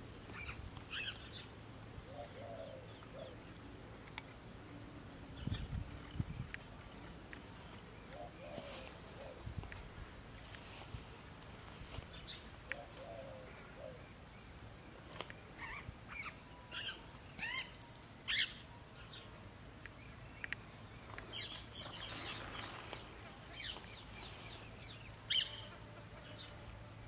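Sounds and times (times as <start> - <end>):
wild birds chirping: 0.0 - 27.0.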